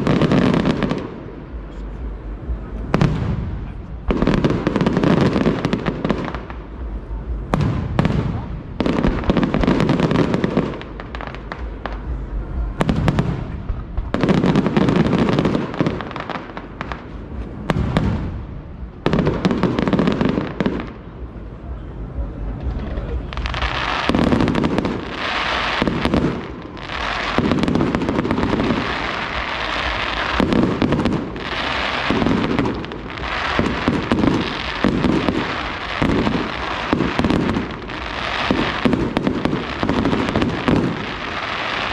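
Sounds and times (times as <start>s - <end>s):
fireworks bursting with booms: 0.0s - 41.9s.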